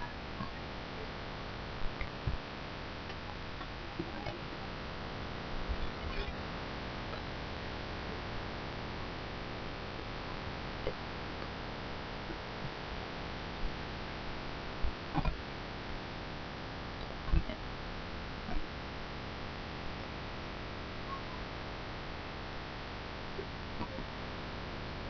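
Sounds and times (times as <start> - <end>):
steady hum and hiss: 0.0 - 25.0.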